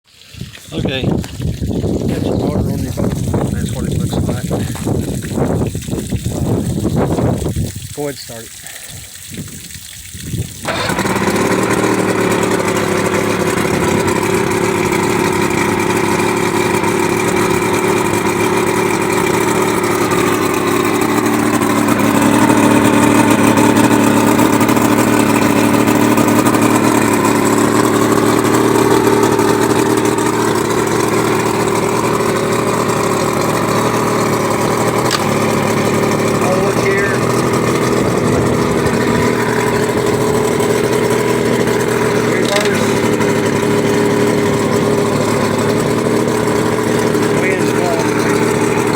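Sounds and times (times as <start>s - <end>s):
outboard motor running: 0.1s - 48.9s.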